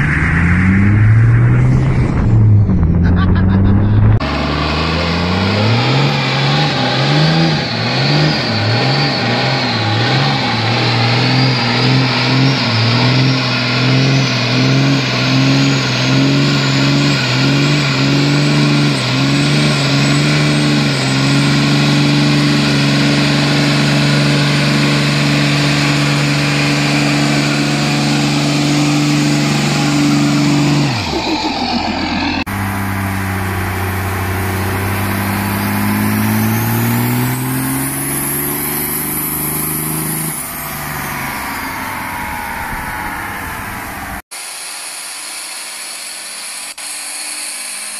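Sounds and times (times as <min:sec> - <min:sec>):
diesel engine revving: 0:00.0 - 0:44.4.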